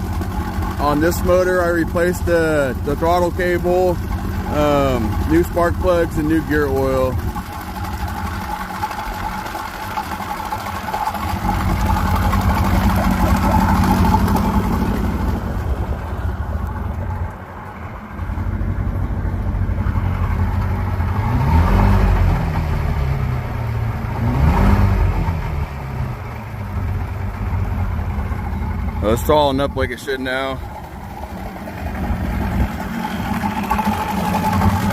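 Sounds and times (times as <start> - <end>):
outboard motor running and revving: 0.0 - 34.9.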